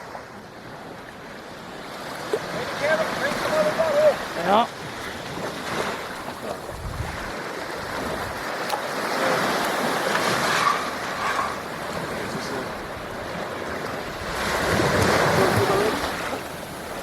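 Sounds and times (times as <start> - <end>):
ocean waves on beach: 0.0 - 17.0.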